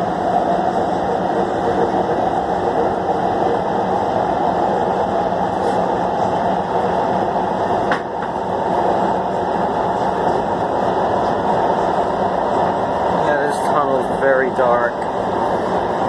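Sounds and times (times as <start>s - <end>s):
subway train running in tunnel: 0.0s - 16.0s.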